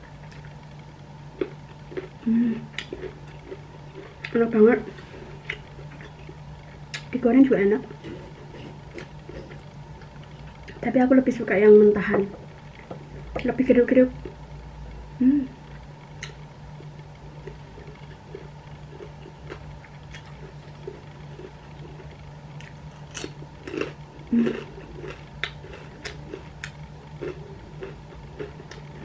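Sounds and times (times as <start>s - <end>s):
person chewing crunchy food: 0.0s - 7.1s, 7.9s - 10.8s, 15.7s - 29.0s.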